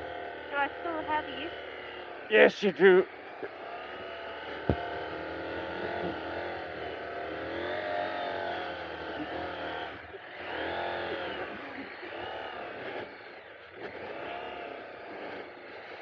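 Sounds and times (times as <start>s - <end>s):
motorcycle engine under load: 0.0s - 2.3s, 2.9s - 16.0s.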